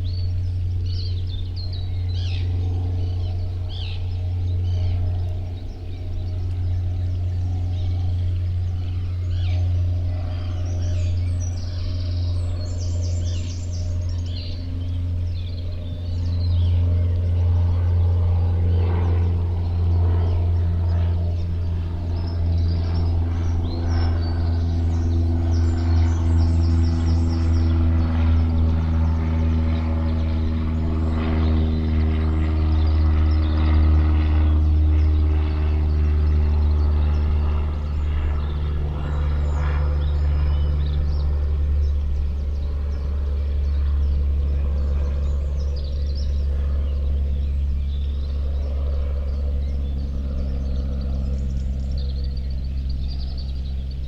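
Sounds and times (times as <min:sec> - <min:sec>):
low engine-like hum: 0:00.0 - 0:54.0.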